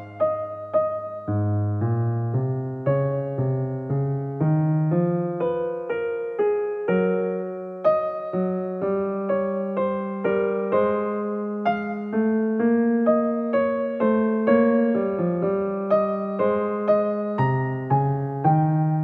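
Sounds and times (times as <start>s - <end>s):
slow gentle keyboard melody: 0.0s - 19.0s.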